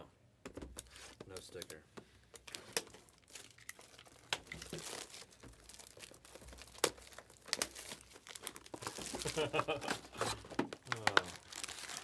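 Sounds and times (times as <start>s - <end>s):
plastic wrapping crinkling and tearing: 0.9s - 12.0s.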